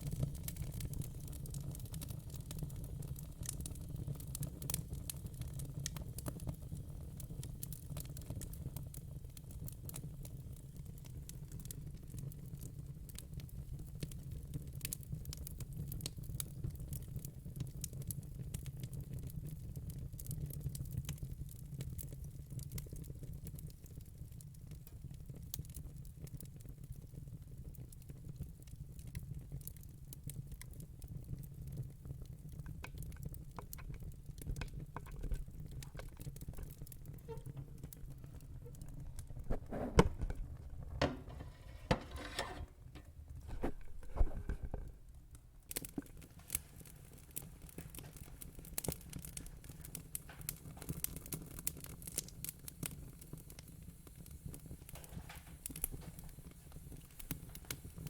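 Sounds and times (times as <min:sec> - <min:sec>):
fire popping: 0:00.0 - 0:23.8, 0:24.4 - 0:58.0
log fire crackling: 0:00.0 - 0:58.0.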